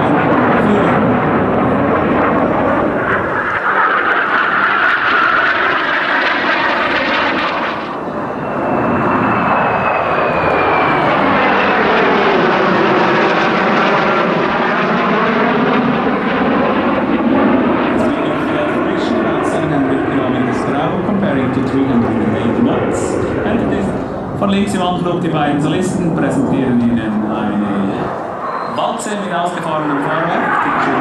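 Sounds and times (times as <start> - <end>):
high jet whine falling in pitch: 0.0 - 31.0
jet aircraft flying past: 0.0 - 31.0.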